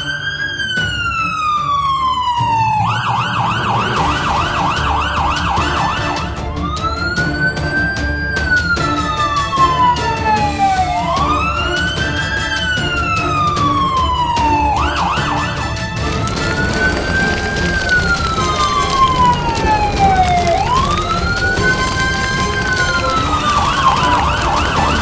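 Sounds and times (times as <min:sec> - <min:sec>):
background music: 0:00.0 - 0:25.0
fire engine siren wailing: 0:00.0 - 0:25.0.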